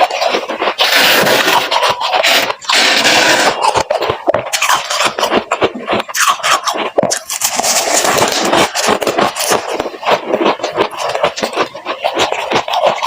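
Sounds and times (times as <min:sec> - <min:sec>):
freezer frost crunching: 0:00.0 - 0:13.0.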